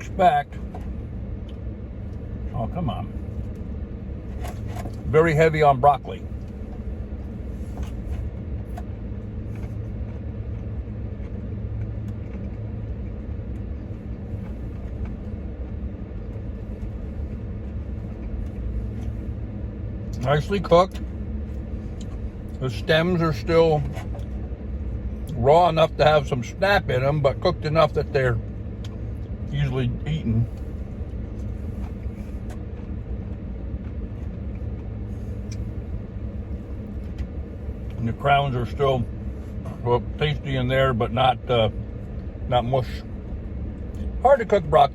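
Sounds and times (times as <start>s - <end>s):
vehicle engine idling: 0.0s - 44.9s.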